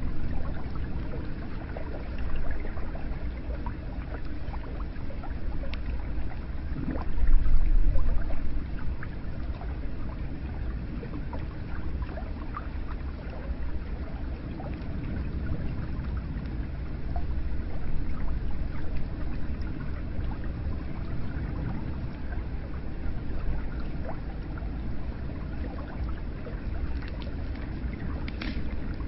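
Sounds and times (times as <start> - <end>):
water drips and splashes: 0.0 - 29.0.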